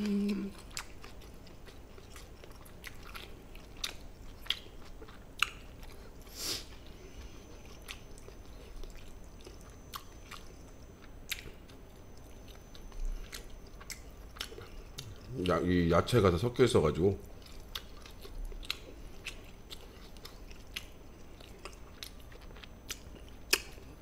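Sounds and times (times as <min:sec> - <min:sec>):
chewing and mouth sounds: 0:00.0 - 0:15.8, 0:17.2 - 0:24.0.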